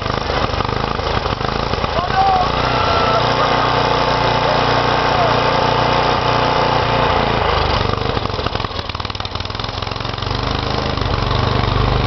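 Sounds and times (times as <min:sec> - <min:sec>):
snow blower engine running: 0:00.0 - 0:12.0.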